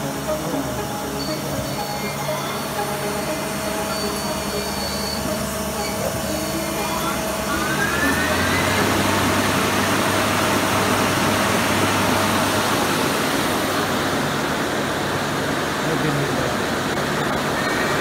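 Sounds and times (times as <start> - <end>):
rushing noise of spinning chuck: 0.0 - 15.4
lathe spindle whine: 0.0 - 18.0.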